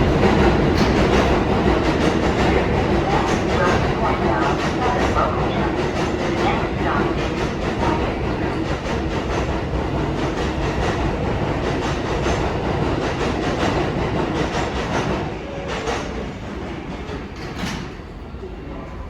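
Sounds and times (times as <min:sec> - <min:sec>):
subway train wheels clacking: 0:00.0 - 0:19.0.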